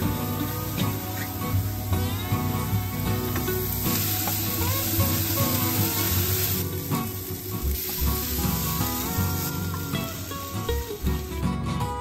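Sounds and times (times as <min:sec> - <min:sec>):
mushrooms sizzling in a frying pan: 0:00.0 - 0:11.7.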